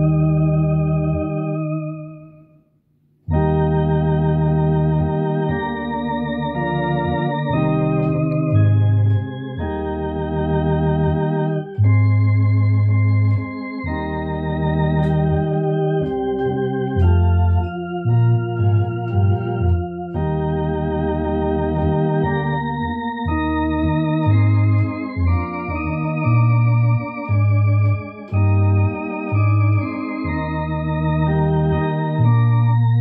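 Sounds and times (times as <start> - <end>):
electronic organ playing a hymn: 0.0 - 2.5, 3.3 - 33.0.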